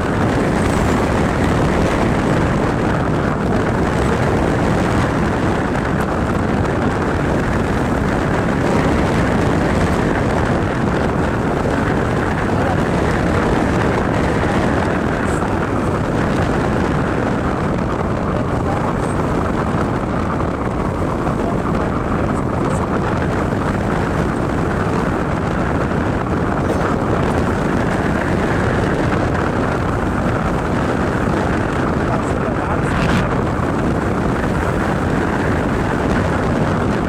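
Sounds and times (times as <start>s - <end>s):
road noise: 0.0s - 37.0s
wind buffeting microphone: 0.0s - 37.0s.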